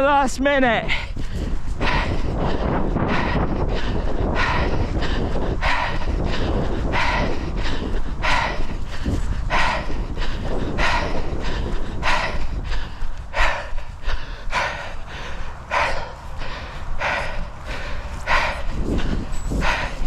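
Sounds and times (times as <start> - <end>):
person breathing hard while running: 0.7 - 20.0.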